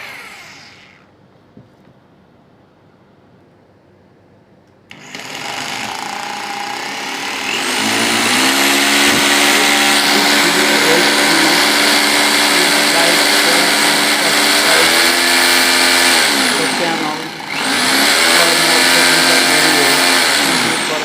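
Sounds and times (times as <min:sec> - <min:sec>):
rotary hammer drill running: 0:00.0 - 0:01.1, 0:04.9 - 0:21.0.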